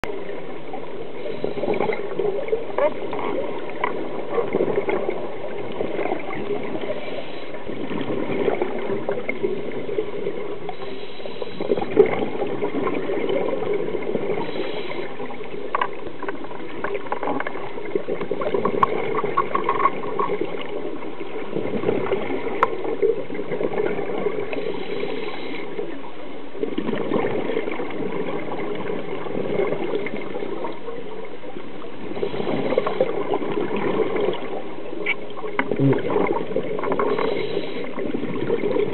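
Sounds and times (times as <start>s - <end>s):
diver's regulator bubbling: 0.0s - 38.9s
exhaled bubbles bursting: 1.3s - 7.0s, 7.6s - 10.6s, 11.6s - 14.5s, 15.2s - 24.6s, 26.6s - 30.9s, 32.0s - 38.9s.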